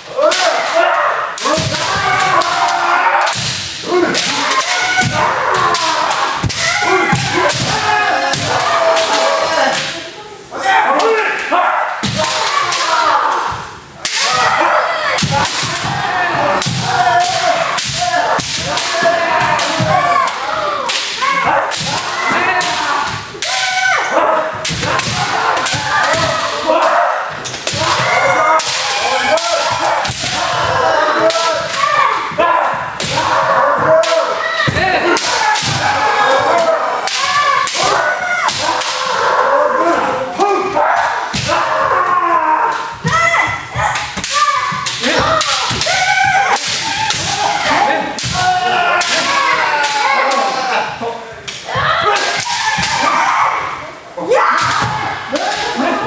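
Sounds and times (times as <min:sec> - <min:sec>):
people shouting: 0:00.0 - 0:56.0
bamboo swords clacking: 0:01.4 - 0:10.0, 0:12.0 - 0:39.4, 0:43.7 - 0:50.7, 0:51.5 - 0:53.2, 0:54.5 - 0:56.0.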